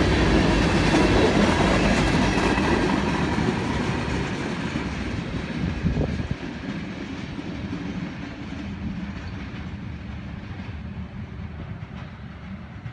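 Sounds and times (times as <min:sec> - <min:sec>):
freight train rolling on rails: 0:00.0 - 0:12.9.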